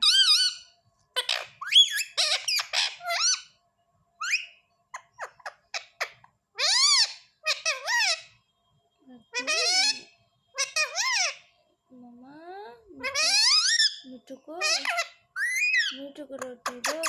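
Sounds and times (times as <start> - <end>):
parrot squawking and chirping: 0.0 - 3.6, 4.2 - 8.4, 9.3 - 11.6, 12.8 - 17.0.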